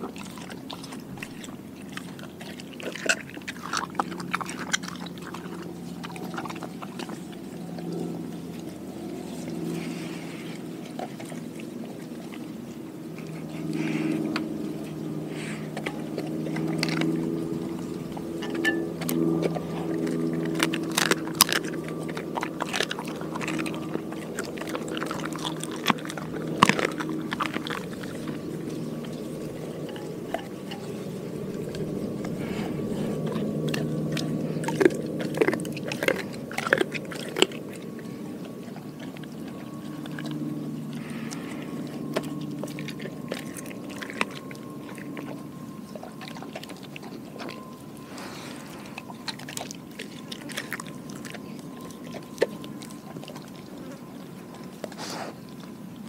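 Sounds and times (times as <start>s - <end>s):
dog chewing wet food: 0.0s - 56.0s
faint low hum: 0.0s - 56.0s.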